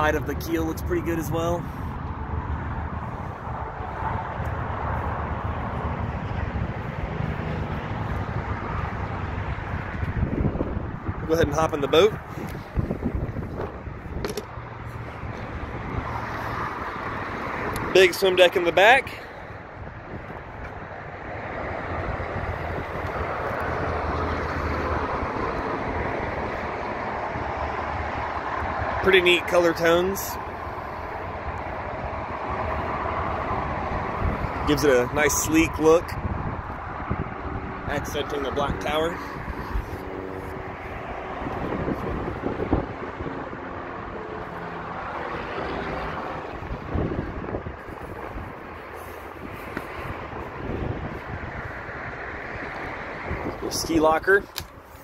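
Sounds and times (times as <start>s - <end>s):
distant engine drone: 0.0s - 55.0s.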